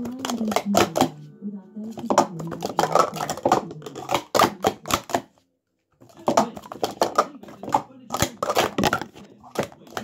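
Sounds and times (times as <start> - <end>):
plastic cups clacking: 0.0 - 5.4, 6.0 - 10.0.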